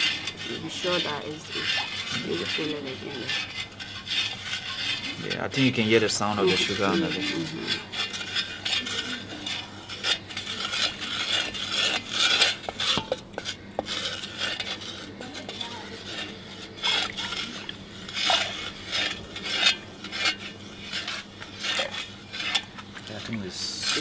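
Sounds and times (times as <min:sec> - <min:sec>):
wooden spoon scraping pot: 0:00.0 - 0:24.0.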